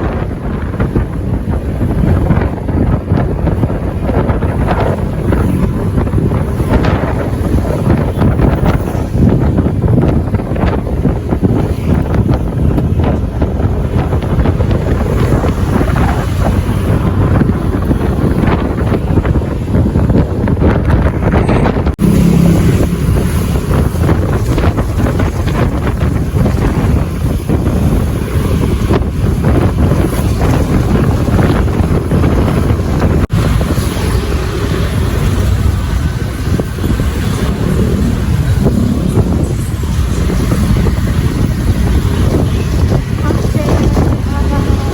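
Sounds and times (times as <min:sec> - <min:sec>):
low rumble: 0:00.0 - 0:44.9
vehicle engine and road noise: 0:00.0 - 0:44.9
wind buffeting microphone: 0:00.0 - 0:44.9.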